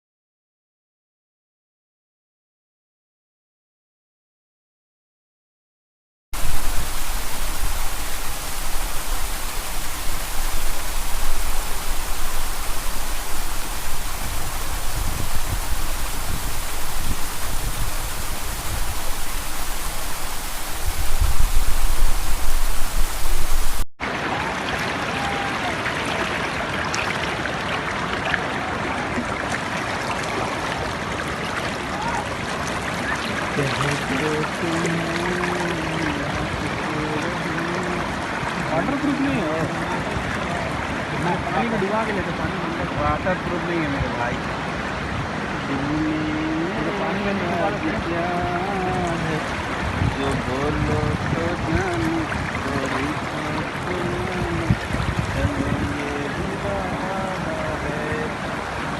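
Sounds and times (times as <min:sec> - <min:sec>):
waterfall rushing: 0:06.4 - 0:58.9.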